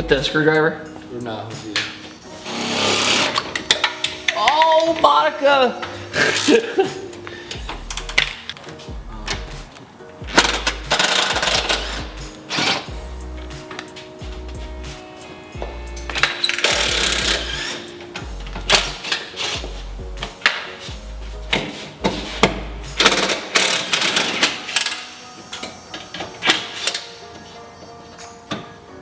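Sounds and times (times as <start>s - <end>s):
background music with deep bass: 0.0s - 29.0s.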